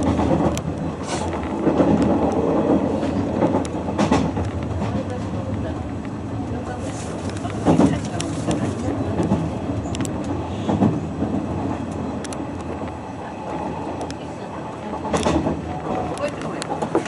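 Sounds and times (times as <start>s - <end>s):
train rumble inside car: 0.0s - 17.0s.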